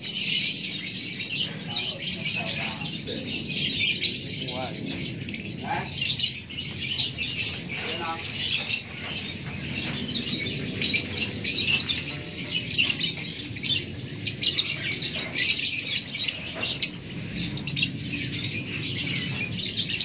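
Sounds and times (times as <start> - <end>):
lovebirds chattering: 0.0 - 20.0.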